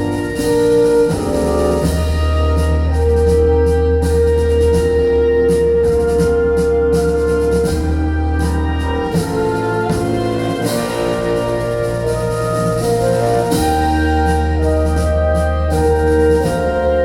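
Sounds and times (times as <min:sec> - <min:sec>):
instrumental music with heavy bass: 0:00.0 - 0:17.0.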